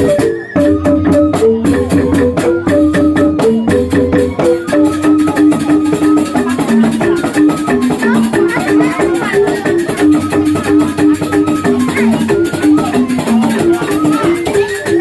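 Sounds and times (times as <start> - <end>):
bamboo xylophone ensemble: 0.0 - 15.0
percussion beat: 0.0 - 15.0.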